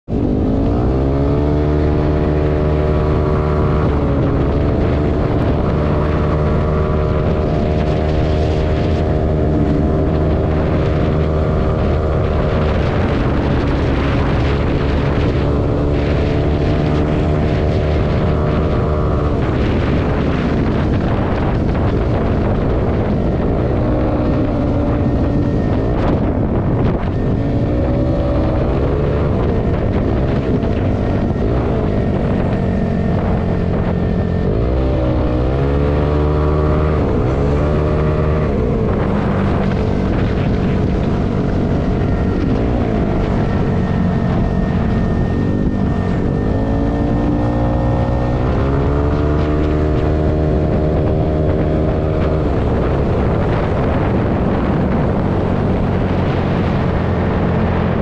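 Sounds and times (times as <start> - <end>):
wind noise on microphone: 0.0 - 58.0
scooter engine cruising: 0.1 - 58.0.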